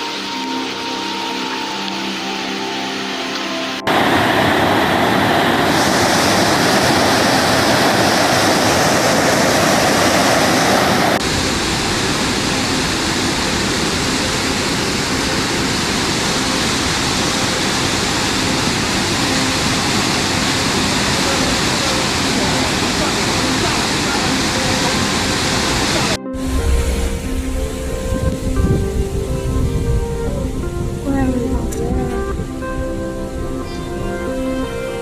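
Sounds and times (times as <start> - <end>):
rushing floodwater: 0.0 - 35.0.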